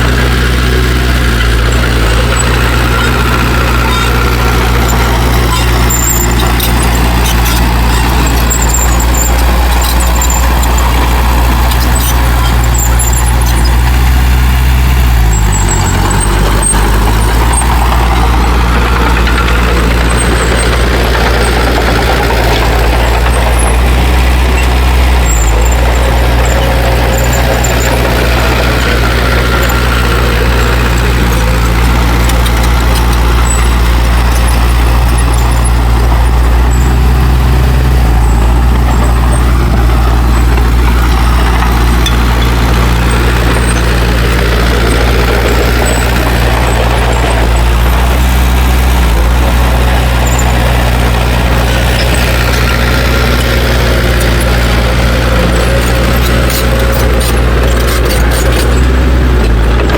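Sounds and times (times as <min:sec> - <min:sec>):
heavy diesel engine running: 0:00.0 - 0:59.9
short high squeaks: 0:00.5 - 0:59.9.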